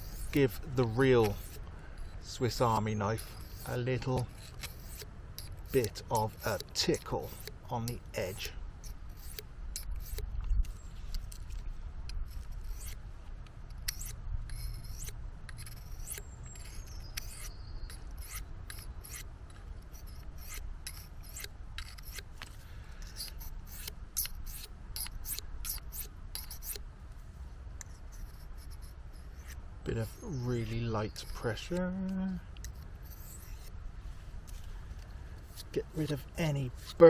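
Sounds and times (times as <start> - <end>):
knife scraping on whetstone: 0.0 - 11.6, 12.3 - 13.0, 13.7 - 26.8, 27.8 - 31.9, 32.6 - 33.7, 35.4 - 37.0.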